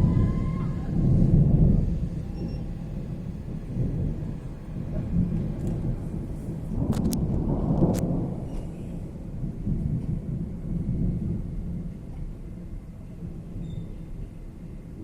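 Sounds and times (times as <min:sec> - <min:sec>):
rolling thunder: 0:00.0 - 0:15.0
sharp thunder cracks: 0:00.0 - 0:15.0.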